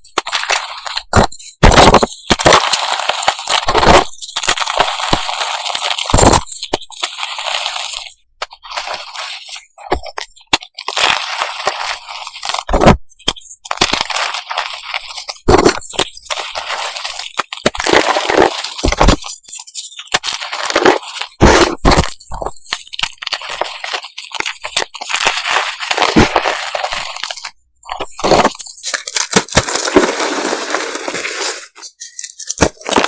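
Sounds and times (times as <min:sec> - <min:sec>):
chalk pieces crunching and cracking: 0:00.0 - 0:33.0.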